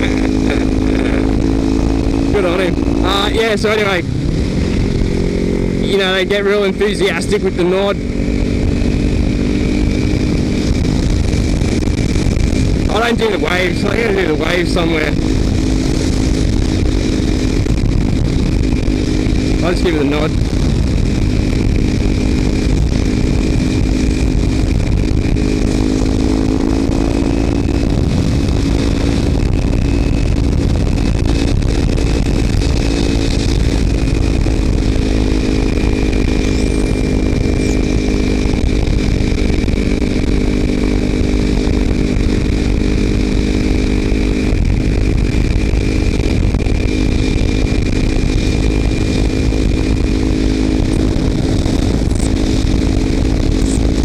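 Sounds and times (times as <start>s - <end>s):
motorcycle engine cruising: 0.0s - 54.0s
wind noise: 0.0s - 54.0s.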